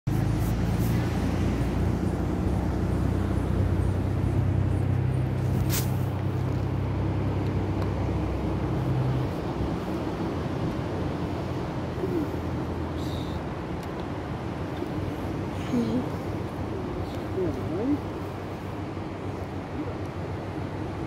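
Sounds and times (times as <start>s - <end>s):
vehicle engine idling: 0.1s - 21.0s.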